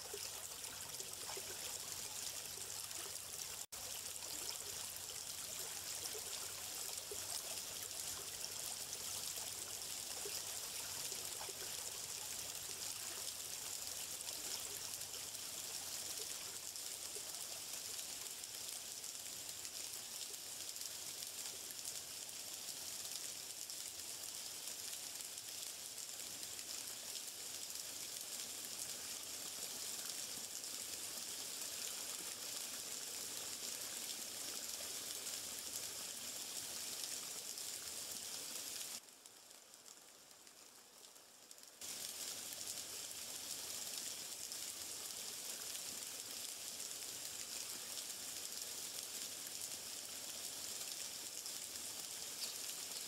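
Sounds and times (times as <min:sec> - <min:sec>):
running water hiss: 0:00.0 - 0:53.0.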